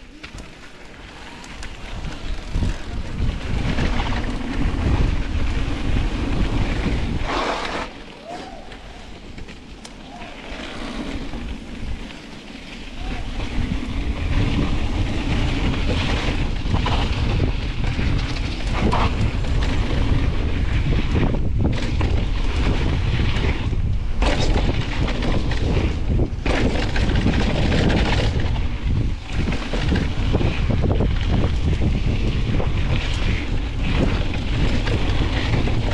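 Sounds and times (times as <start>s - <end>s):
bike rumbling on dirt trail: 0.0s - 35.9s
wind buffeting microphone: 1.0s - 35.9s.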